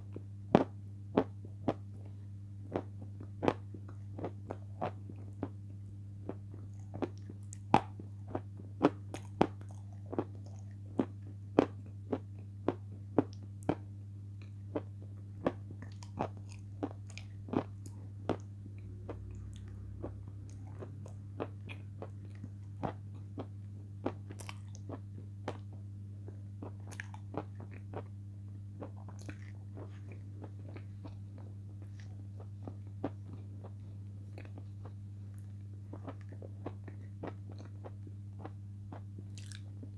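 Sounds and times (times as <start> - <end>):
steady low hum: 0.0 - 39.9
crunching and chewing chips: 6.3 - 28.1, 28.8 - 39.9.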